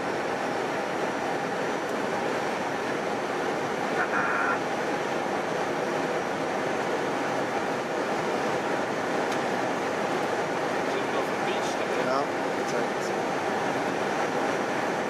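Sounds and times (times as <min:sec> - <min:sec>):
cockpit airflow and engine noise: 0:00.0 - 0:15.0.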